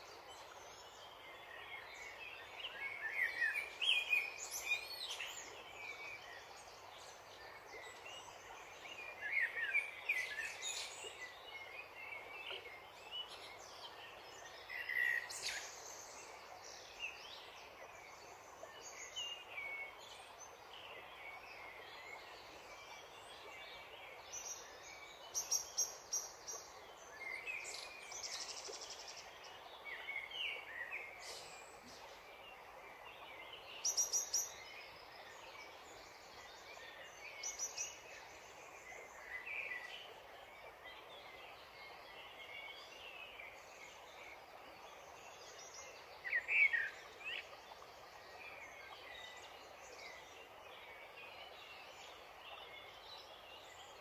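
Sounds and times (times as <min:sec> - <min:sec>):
outdoor background hiss: 0:00.0 - 0:54.0.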